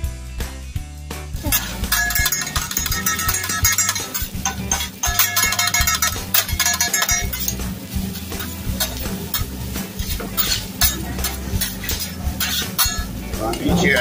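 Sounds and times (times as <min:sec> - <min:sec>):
light sizzle of frying: 0:01.4 - 0:14.0
metal spatula scraping griddle: 0:01.5 - 0:14.0.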